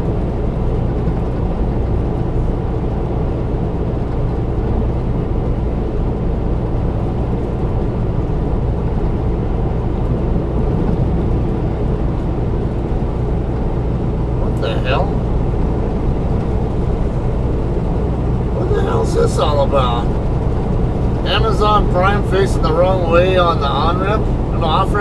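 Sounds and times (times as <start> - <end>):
road noise: 0.0 - 25.0
truck diesel engine drone: 0.0 - 25.0.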